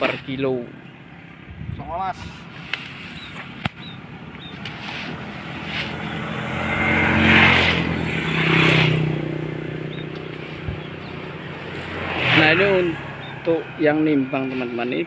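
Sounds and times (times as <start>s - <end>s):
motorcycles passing: 0.0s - 15.0s.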